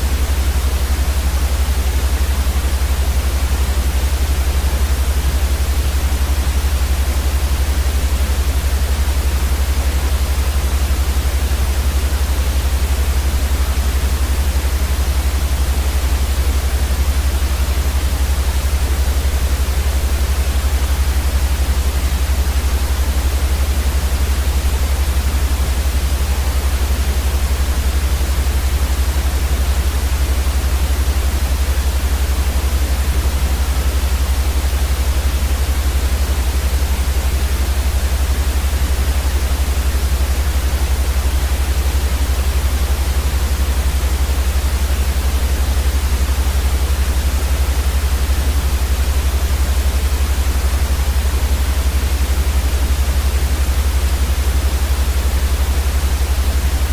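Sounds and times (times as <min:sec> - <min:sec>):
white noise hiss: 0:00.0 - 0:56.9.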